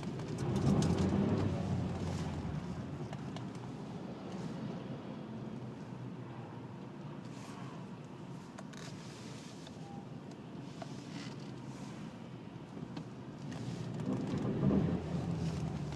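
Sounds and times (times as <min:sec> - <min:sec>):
road noise rumble inside car: 0:00.0 - 0:15.9.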